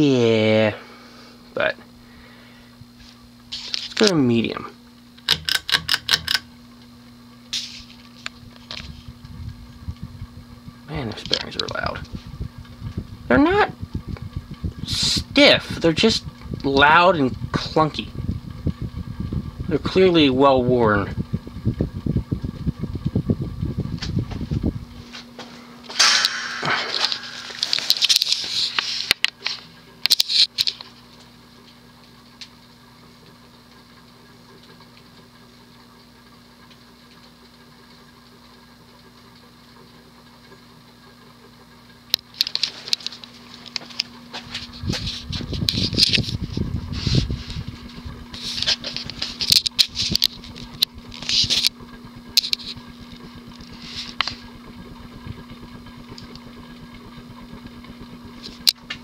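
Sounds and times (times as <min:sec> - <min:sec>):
ceiling fan motor hum: 0:00.0 - 0:59.0.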